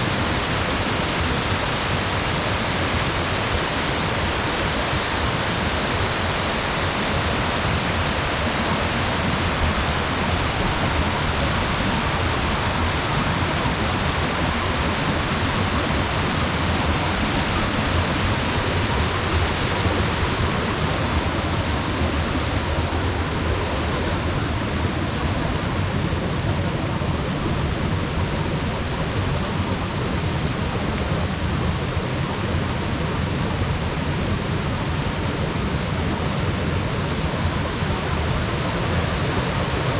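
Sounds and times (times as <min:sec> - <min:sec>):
waterfall and rapids rushing: 0:00.0 - 0:39.9.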